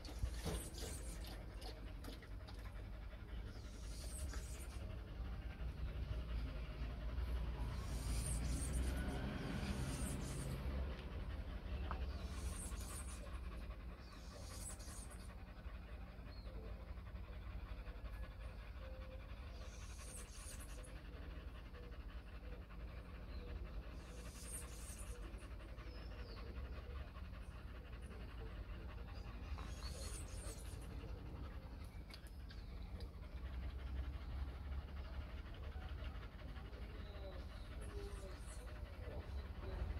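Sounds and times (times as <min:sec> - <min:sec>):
dogs panting rapidly: 0:00.0 - 0:39.9
low steady rumble: 0:00.0 - 0:39.9.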